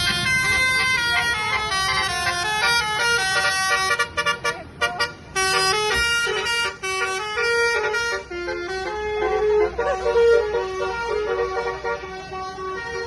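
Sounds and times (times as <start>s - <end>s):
multi-tone bus horn playing a tune: 0.0s - 13.0s.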